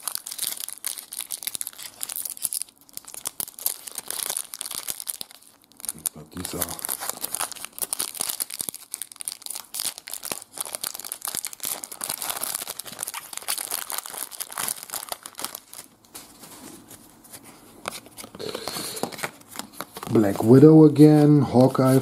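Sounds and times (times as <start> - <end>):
foil wrapper crinkling and tearing: 0.0 - 20.7.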